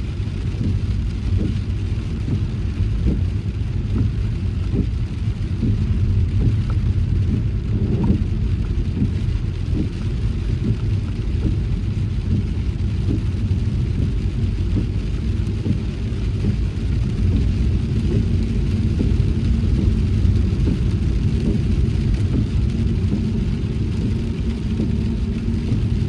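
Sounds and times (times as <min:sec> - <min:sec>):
car road and engine rumble: 0:00.0 - 0:26.0
faint rain hiss: 0:00.0 - 0:26.0.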